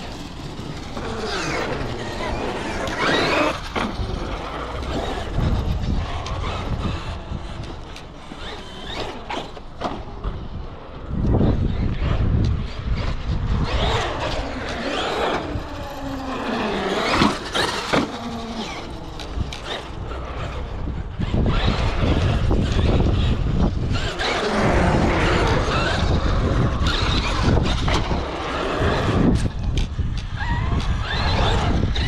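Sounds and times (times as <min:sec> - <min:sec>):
electric motor whining: 0:00.0 - 0:32.0.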